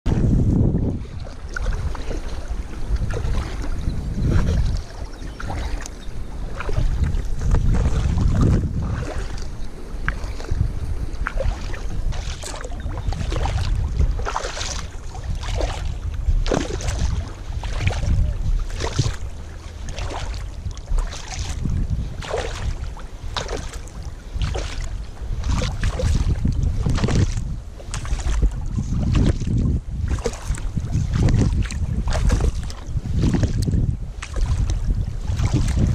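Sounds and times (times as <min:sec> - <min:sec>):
wind rumbling on microphone: 0:00.0 - 0:35.9
kayak paddle splashing water: 0:00.1 - 0:35.9.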